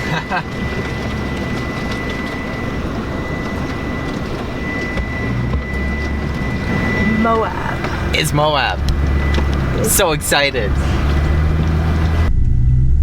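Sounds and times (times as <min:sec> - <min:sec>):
faint high whine: 0:00.0 - 0:13.0
truck driving road noise: 0:00.0 - 0:13.0.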